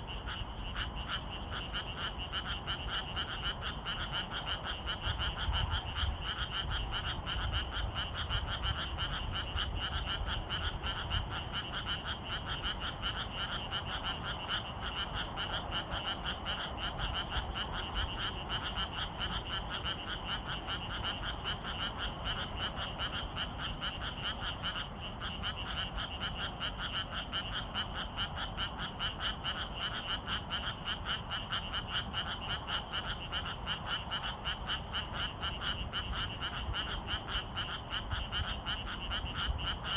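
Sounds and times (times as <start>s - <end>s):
frogs croaking chorus: 0.0s - 39.9s.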